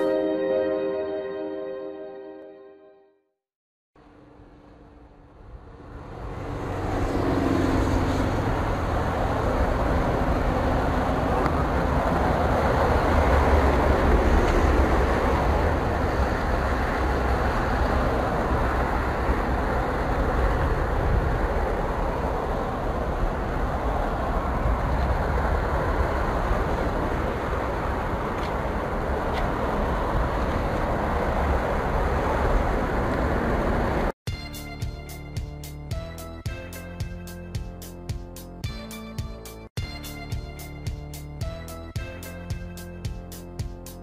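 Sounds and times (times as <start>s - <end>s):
motorway traffic rushing: 4.0s - 44.0s.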